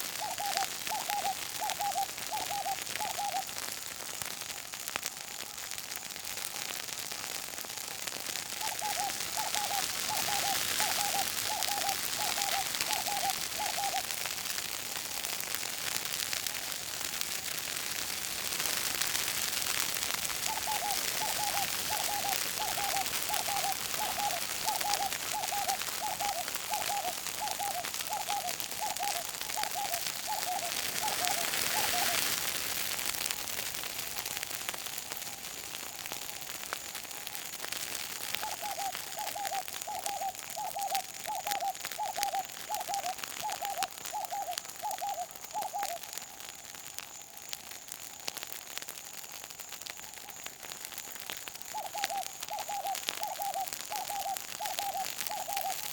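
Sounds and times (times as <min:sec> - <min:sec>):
bushfire crackling and hissing: 0:00.0 - 0:55.9.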